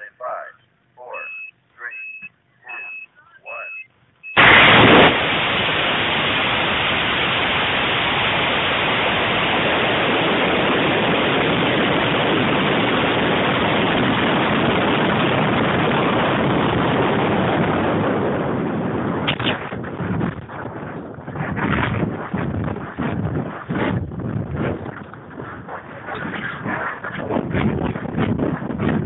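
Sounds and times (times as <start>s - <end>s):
gusts of wind noise: 4.4s - 29.0s
loud rushing air roar: 4.4s - 29.0s.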